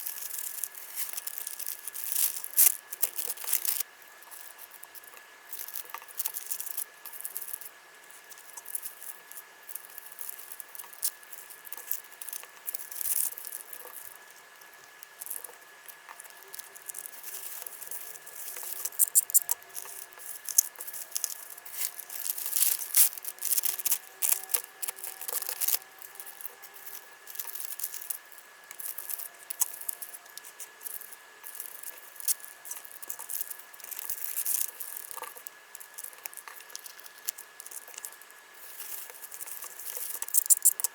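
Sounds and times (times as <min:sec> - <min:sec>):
plastic wrapping crinkling: 0:00.0 - 0:07.6, 0:08.4 - 0:40.9.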